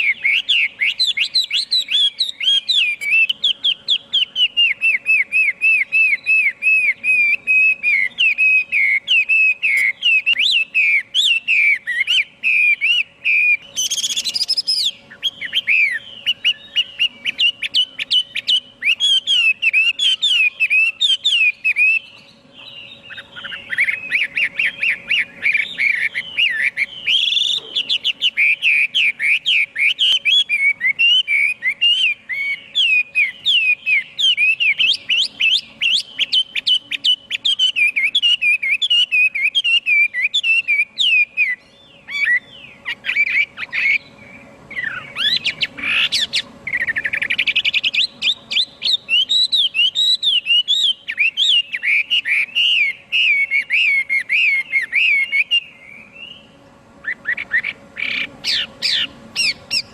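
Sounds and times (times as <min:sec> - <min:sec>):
bird singing whistled notes: 0:00.0 - 0:59.9
faint steady hum: 0:00.0 - 0:59.9.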